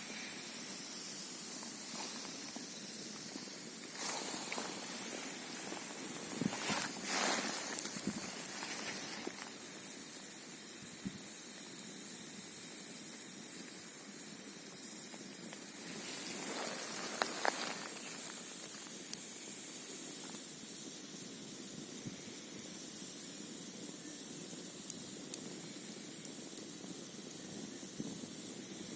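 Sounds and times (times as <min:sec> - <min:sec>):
wind: 0:00.0 - 0:28.9
campfire crackling and popping: 0:00.5 - 0:28.9.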